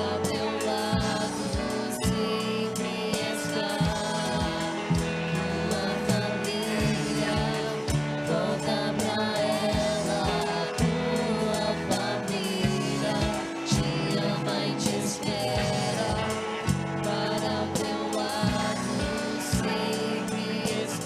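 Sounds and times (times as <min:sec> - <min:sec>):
worship music with singing: 0:00.0 - 0:21.0.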